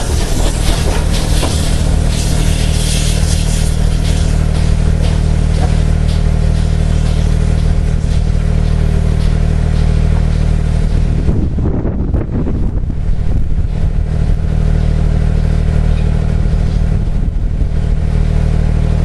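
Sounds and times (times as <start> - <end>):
train carriages running: 0.0 - 19.0
wind rumble on microphone: 0.0 - 19.0.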